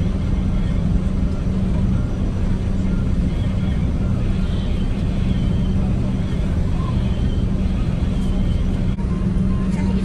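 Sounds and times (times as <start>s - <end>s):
boat engines droning: 0.0s - 10.0s.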